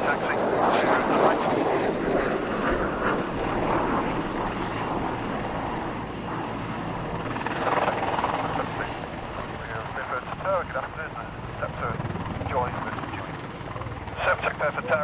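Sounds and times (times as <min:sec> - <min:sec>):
aircraft engine: 0:00.0 - 0:15.0.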